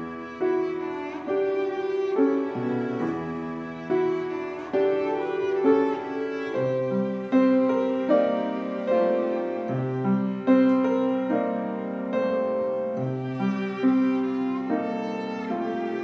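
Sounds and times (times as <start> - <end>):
bowed cello notes: 0.0 - 16.0
grand piano playing: 0.0 - 16.0.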